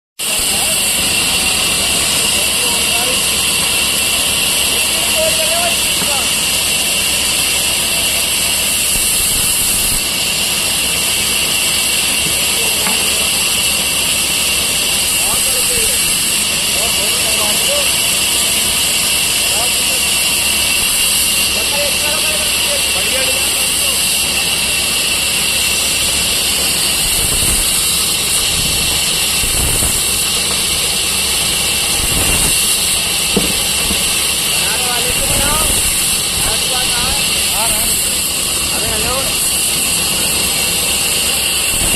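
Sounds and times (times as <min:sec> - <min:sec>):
machine hissing: 0:00.2 - 0:41.9.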